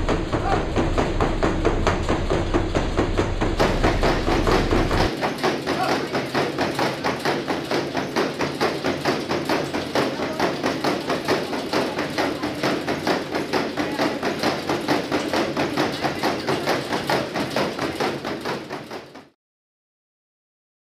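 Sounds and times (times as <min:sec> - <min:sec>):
horse hooves on treadmill: 0:00.0 - 0:19.4.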